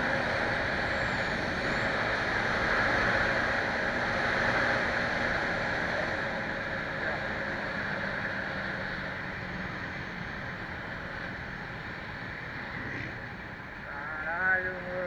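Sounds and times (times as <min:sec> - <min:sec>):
motorcycle wind and road noise: 0:00.0 - 0:13.8.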